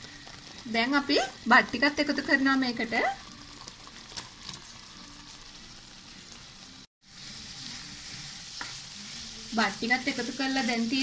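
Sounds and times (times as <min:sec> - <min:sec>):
syrup sizzling in a pot: 0:00.0 - 0:11.0.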